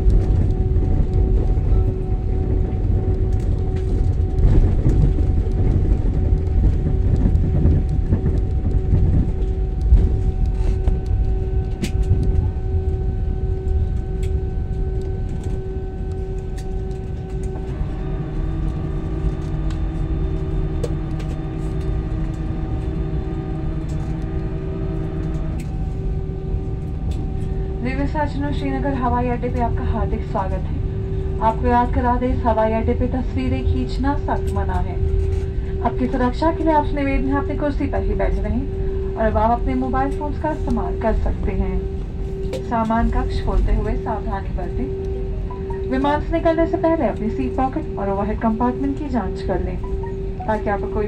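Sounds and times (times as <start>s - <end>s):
engine hum: 0.0s - 51.0s
wheels and jet engines rumbling: 0.0s - 51.0s.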